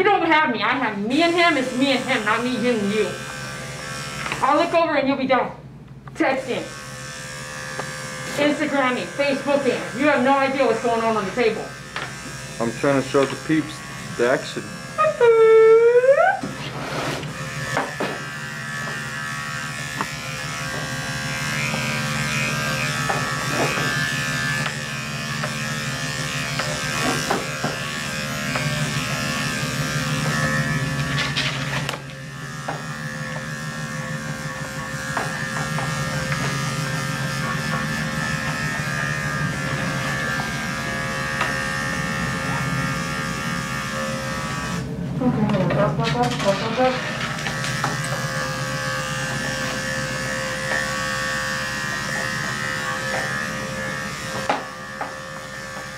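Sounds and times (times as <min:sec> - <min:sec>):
electric clippers buzzing: 0:00.0 - 0:55.9.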